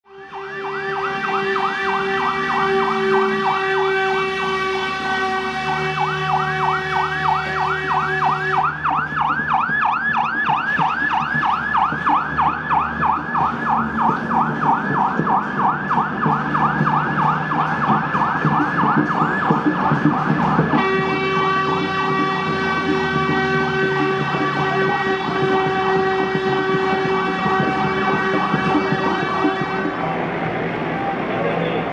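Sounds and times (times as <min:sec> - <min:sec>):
steady horn-like tone: 0:00.1 - 0:09.0, 0:12.0 - 0:31.9
police siren yelping: 0:00.1 - 0:31.9.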